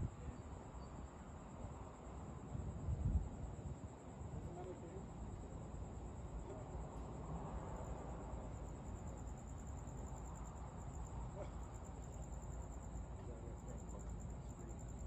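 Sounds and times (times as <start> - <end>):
crickets chirping: 0.0 - 15.0
low outdoor rumble: 2.4 - 15.0.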